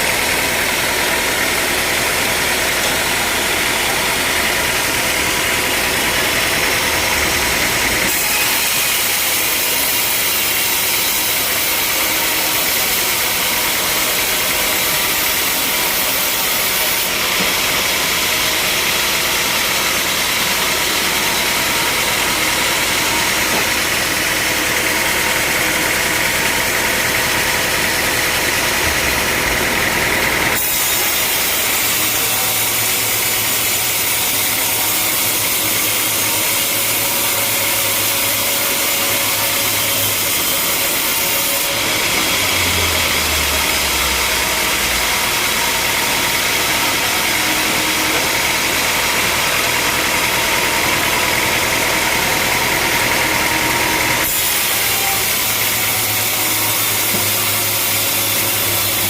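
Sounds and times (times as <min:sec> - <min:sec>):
saw cutting through log: 0:00.0 - 0:59.0
sawmill machinery running: 0:00.0 - 0:59.0.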